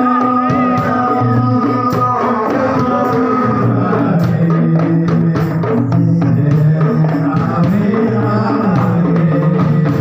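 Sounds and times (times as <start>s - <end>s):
bass drum: 0.0s - 10.0s
hand-struck frame drums: 0.0s - 10.0s
man singing into a microphone: 0.0s - 10.0s.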